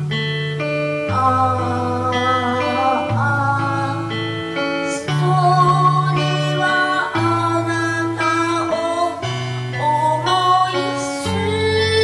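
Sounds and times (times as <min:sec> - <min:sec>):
guitar: 0:00.0 - 0:12.0
woman singing into microphone: 0:00.9 - 0:12.0.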